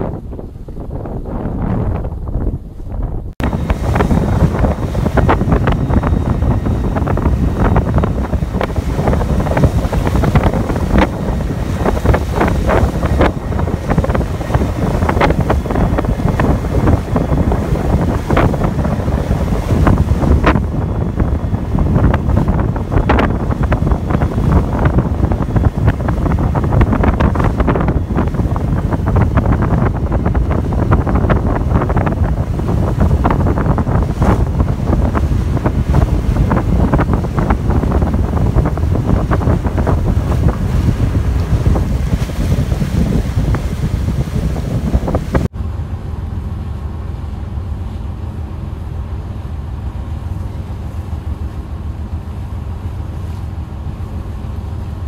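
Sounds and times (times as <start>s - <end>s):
choppy sea splashing: 0.0s - 55.0s
wind buffeting microphone: 0.0s - 55.0s.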